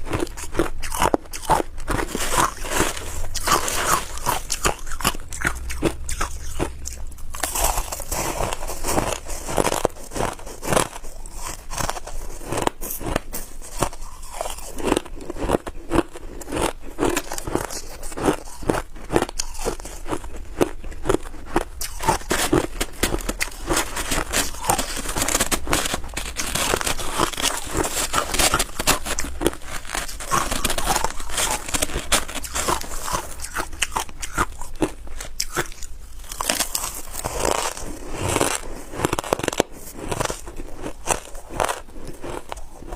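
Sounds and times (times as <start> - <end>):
ice crunching being chewed: 0.0 - 42.9.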